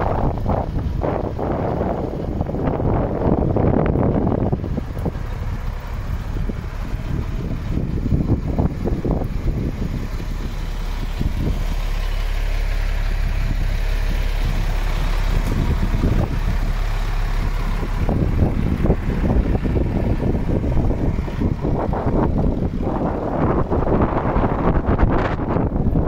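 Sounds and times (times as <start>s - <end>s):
diesel truck engine idling: 0.0s - 26.0s
wind buffeting microphone: 0.0s - 26.0s.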